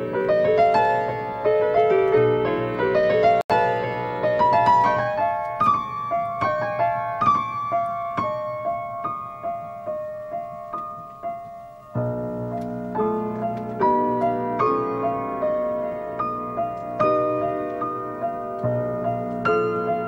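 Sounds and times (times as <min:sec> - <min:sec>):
solo grand piano: 0:00.0 - 0:20.0.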